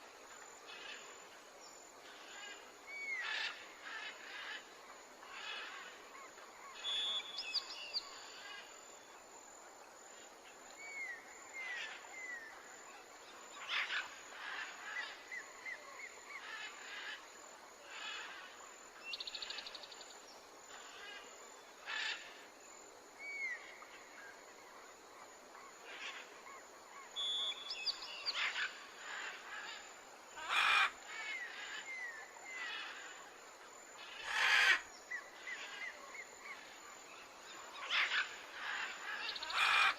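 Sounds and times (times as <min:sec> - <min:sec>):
faint outdoor hiss: 0:00.0 - 0:39.9.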